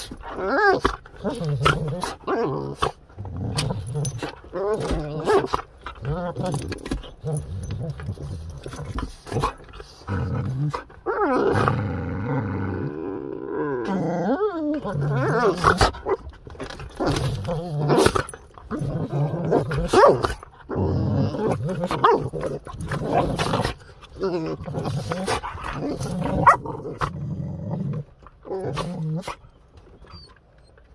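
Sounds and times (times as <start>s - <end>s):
dogs growling and snarling: 0.0s - 30.9s.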